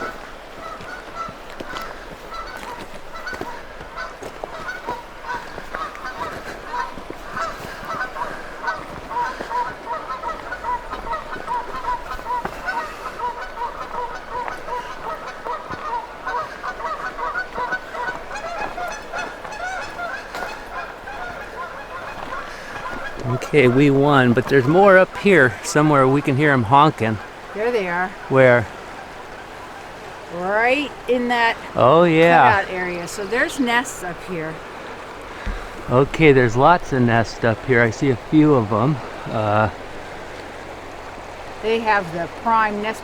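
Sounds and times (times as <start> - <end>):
geese honking: 0.0 - 43.0.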